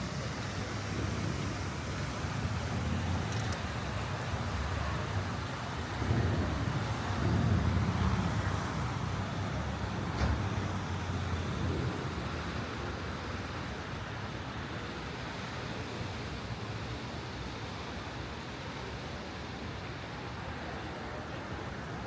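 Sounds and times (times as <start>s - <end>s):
city road traffic: 0.0s - 22.0s
vehicle low rumble: 0.0s - 22.0s.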